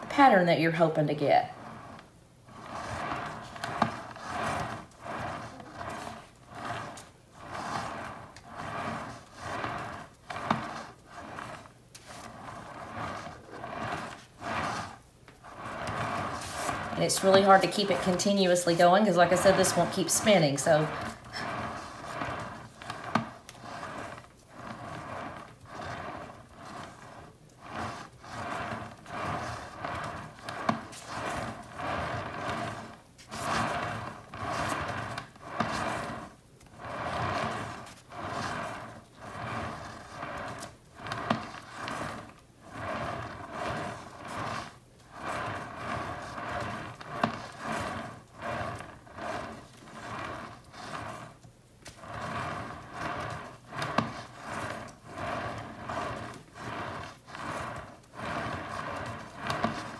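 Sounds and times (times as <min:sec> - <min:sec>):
turntable whirring: 0:00.0 - 0:59.9.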